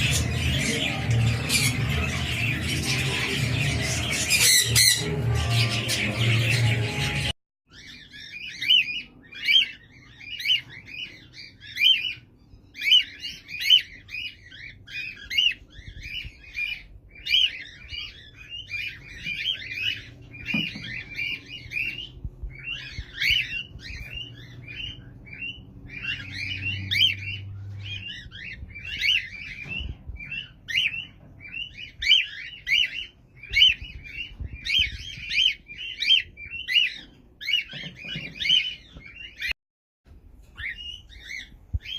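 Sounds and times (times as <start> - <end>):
parrots chirping and chattering: 0.0 - 41.9.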